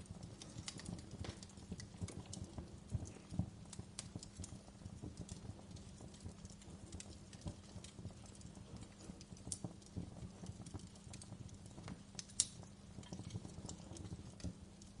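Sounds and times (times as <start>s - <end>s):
low steady hum: 0.0s - 15.0s
wood fire crackling: 0.0s - 15.0s.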